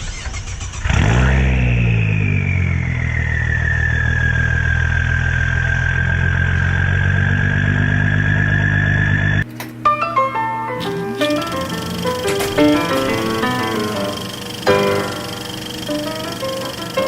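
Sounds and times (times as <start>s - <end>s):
car engine idling: 0.0s - 9.7s, 10.8s - 17.0s
high engine whine: 0.0s - 17.0s.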